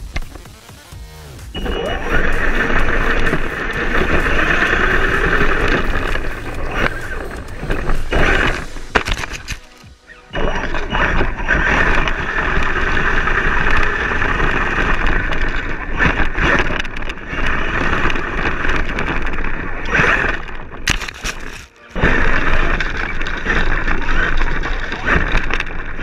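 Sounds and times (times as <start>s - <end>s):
tyre and chassis rattle: 0.0s - 26.0s
electric motor whine: 1.6s - 26.0s.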